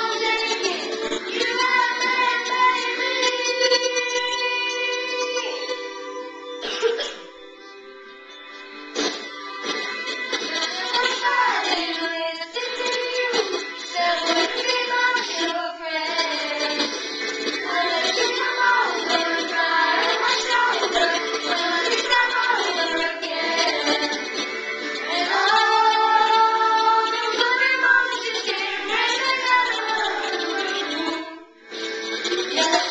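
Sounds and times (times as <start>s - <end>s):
girls singing a pop song: 0.0s - 7.2s, 9.0s - 31.5s, 32.1s - 32.9s
recorded backing music: 0.0s - 32.9s.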